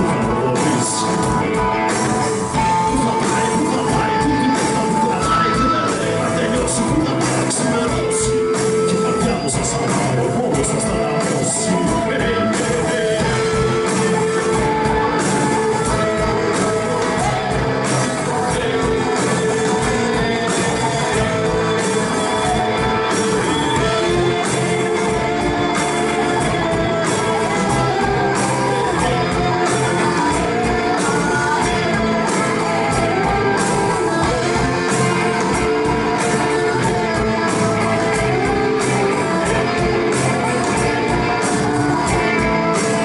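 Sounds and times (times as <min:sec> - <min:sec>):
live rock band playing: 0:00.0 - 0:43.0.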